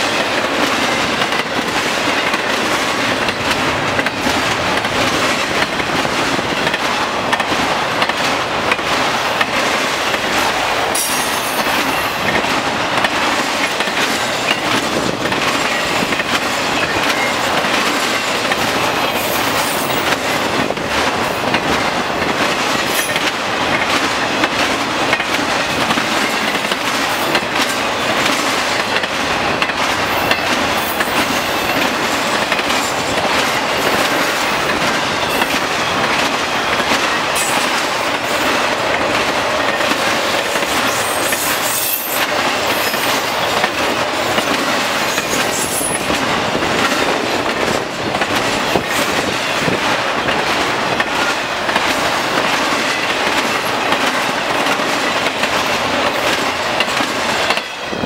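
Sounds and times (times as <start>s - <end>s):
train wheels rumbling on rail: 0.0s - 58.0s
wheels clicking over rail joints: 0.0s - 58.0s.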